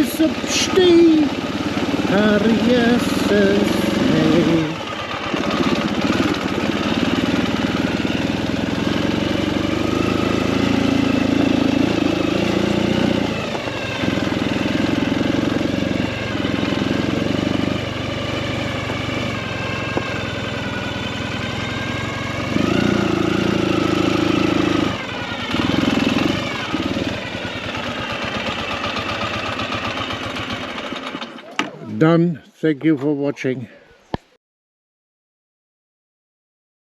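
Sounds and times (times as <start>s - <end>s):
motorcycle engine running: 0.0s - 32.1s.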